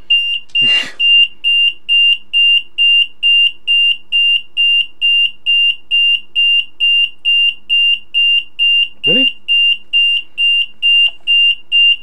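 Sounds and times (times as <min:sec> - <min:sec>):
high repeating electronic beep: 0:00.1 - 0:12.0.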